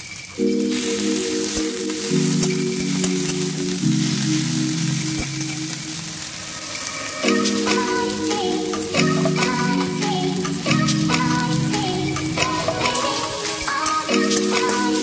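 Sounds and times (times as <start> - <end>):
vegetables sizzling in oil: 0.0 - 15.0
background music: 0.4 - 15.0.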